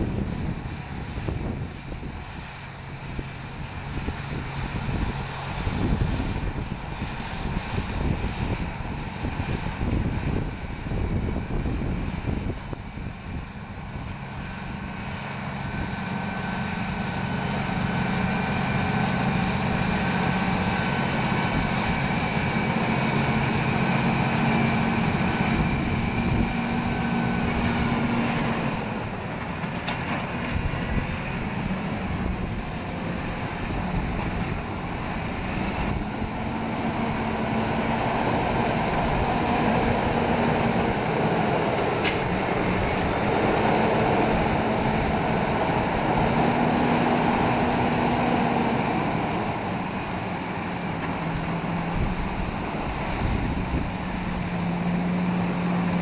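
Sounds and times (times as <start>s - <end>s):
tractor diesel engine under load: 0.0s - 56.0s
wind on microphone: 0.0s - 56.0s.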